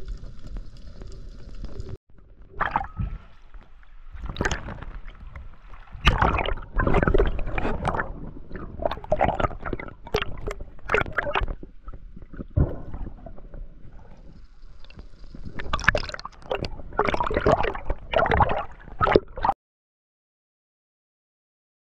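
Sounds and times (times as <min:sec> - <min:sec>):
water sloshing and gurgling: 0:00.0 - 0:19.6.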